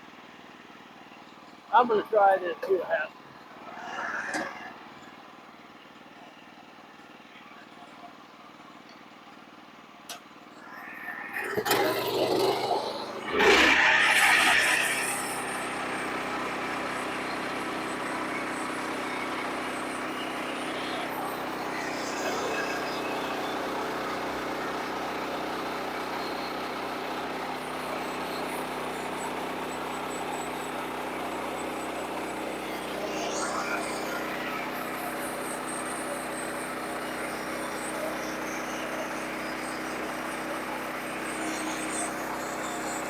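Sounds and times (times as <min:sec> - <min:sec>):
sawmill engine running: 0:00.1 - 0:07.3, 0:10.5 - 0:43.0.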